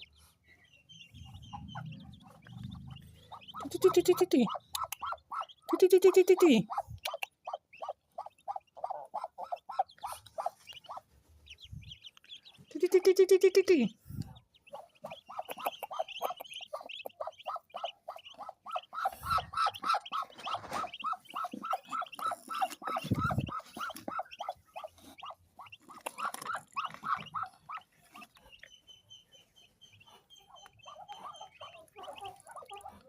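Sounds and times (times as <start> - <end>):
ducklings peeping: 0.0 - 33.0.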